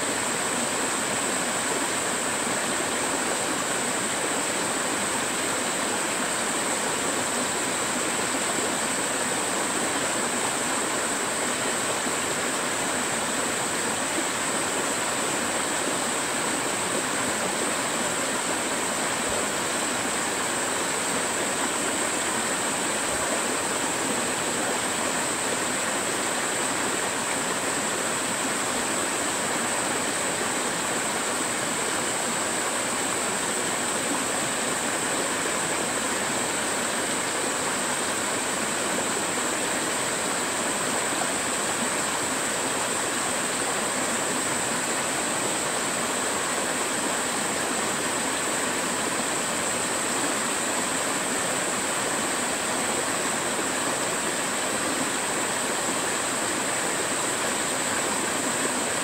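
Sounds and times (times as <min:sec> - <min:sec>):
high-pitched hiss: 0:00.0 - 0:59.0.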